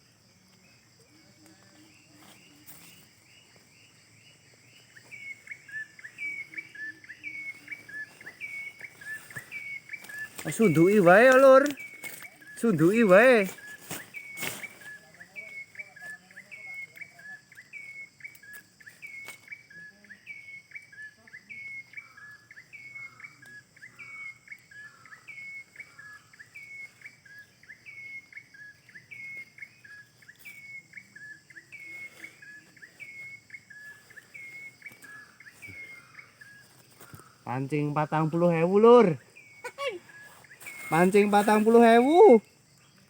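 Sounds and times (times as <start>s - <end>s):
high-pitched insect hum: 0.0s - 43.0s.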